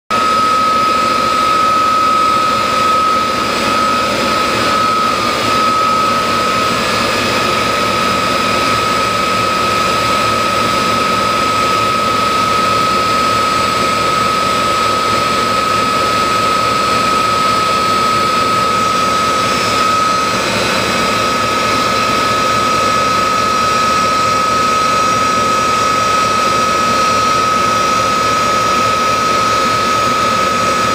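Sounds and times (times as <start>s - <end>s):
high-pitched machine whine: 0.1s - 30.9s.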